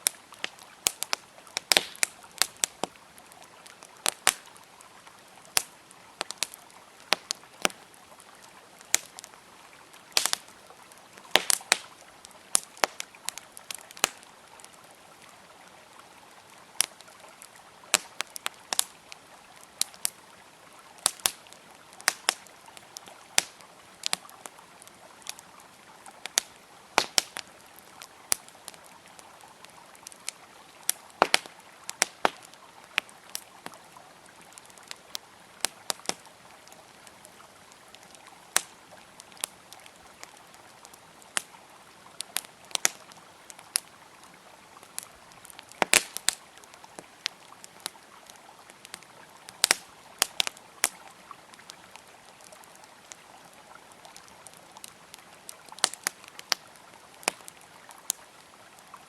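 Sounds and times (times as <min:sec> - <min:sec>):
campfire crackling and popping: 0:00.0 - 0:59.0
river flowing: 0:00.0 - 0:59.0.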